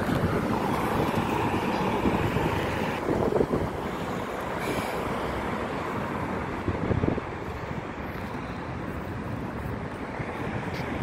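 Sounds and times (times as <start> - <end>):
road traffic noise: 0.0 - 11.0
wind buffeting microphone: 0.0 - 11.0.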